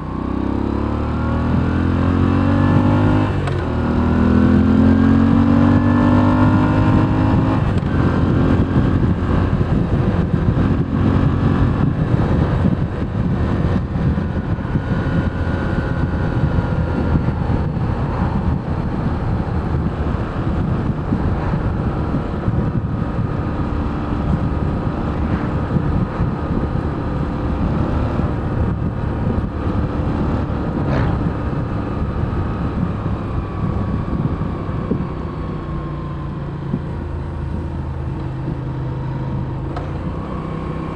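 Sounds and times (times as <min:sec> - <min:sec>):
motorcycle engine running: 0:00.0 - 0:40.9
wind rushing past microphone: 0:00.0 - 0:40.9.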